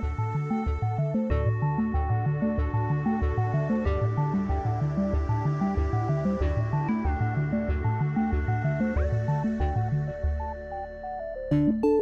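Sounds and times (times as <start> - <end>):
background music with bass pattern: 0.0 - 12.0.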